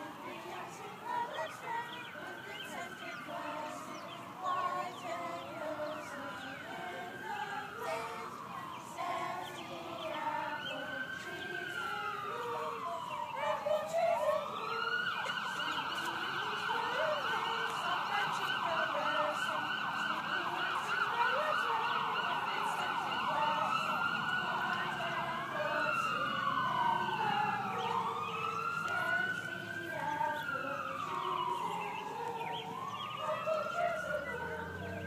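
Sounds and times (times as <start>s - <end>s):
emergency vehicle siren: 0.0s - 35.0s.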